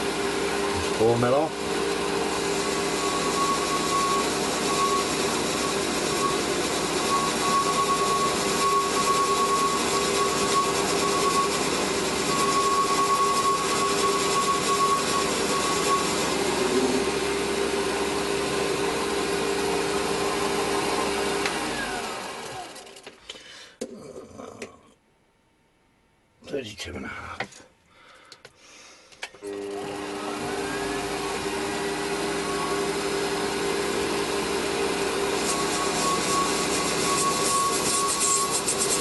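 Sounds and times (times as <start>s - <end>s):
metal lathe running: 0.0s - 22.8s, 29.4s - 39.0s
lathe spinning down: 0.0s - 23.0s, 29.4s - 39.0s.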